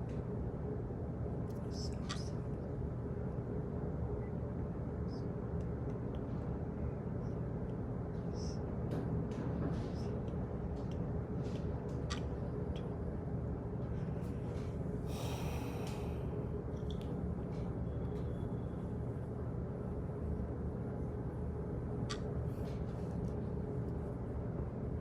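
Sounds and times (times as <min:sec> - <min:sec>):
low rumble and hum: 0:00.0 - 0:25.0.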